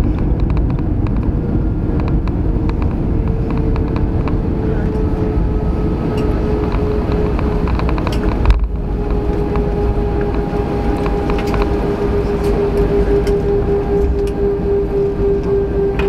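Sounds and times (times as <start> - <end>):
aircraft cabin jolt: 0.0 - 15.0
engines and wheels rumbling: 0.0 - 16.0
steady whine: 0.0 - 16.0.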